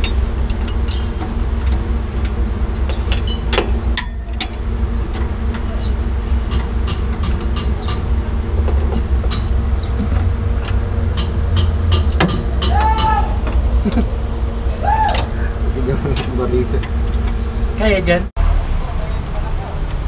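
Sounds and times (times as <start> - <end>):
steady low rumble and hum: 0.0 - 20.0.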